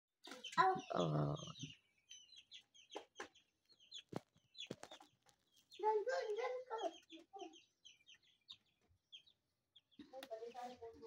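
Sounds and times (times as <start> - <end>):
baby chicks peeping: 0.2 - 11.0.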